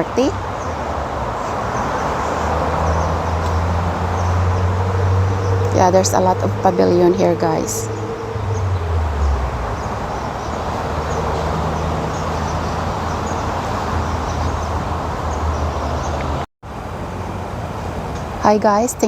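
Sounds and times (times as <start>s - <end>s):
vehicle traffic rumble: 0.0s - 19.0s.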